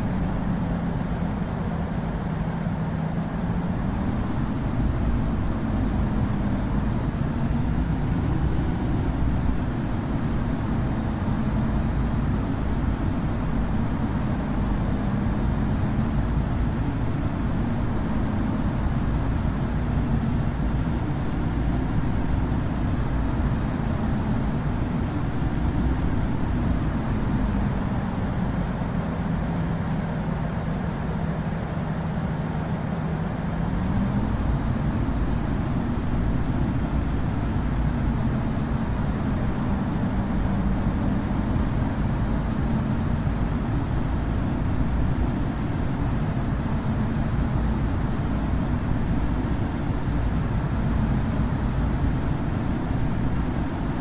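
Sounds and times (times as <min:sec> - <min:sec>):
faint high whine: 0:00.0 - 0:31.4, 0:32.9 - 0:54.0
jet cabin engine rumble: 0:00.0 - 0:54.0.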